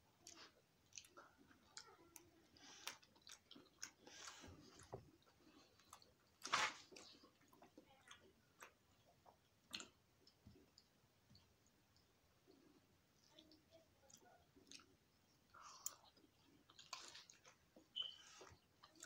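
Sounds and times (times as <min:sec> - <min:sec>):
person chewing food: 0:00.1 - 0:19.0.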